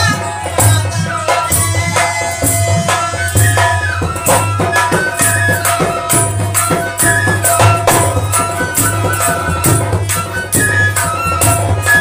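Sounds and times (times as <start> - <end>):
dholak drum beating: 0.0 - 12.0
harmonium melody: 0.0 - 12.0.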